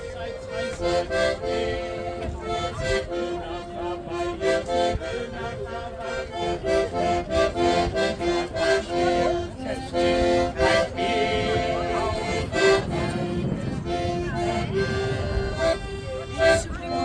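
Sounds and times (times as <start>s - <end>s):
accordion tune: 0.0s - 17.0s
crowd voices: 0.0s - 17.0s.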